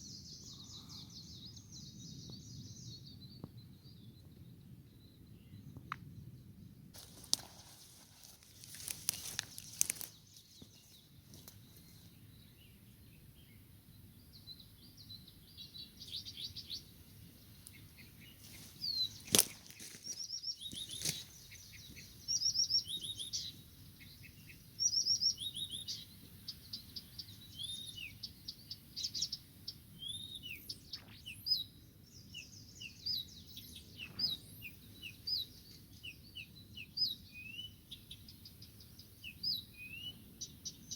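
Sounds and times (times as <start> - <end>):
songbird chirping and trilling: 0.0 - 6.5, 8.6 - 40.9.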